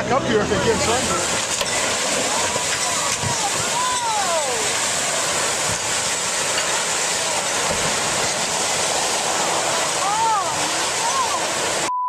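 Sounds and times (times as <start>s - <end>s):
steady rushing noise: 0.0s - 11.9s.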